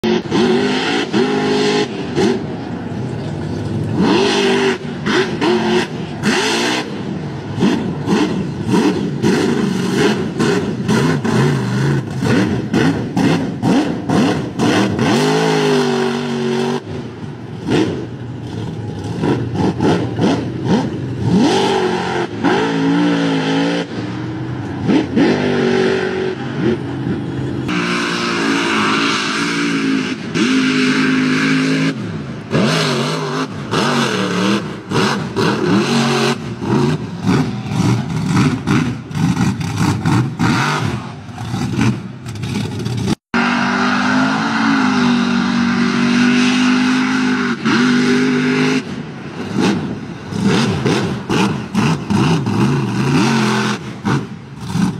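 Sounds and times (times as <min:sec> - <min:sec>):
spinning tyres churning mud: 0:00.0 - 0:54.9
truck engine revving hard: 0:00.0 - 0:54.9.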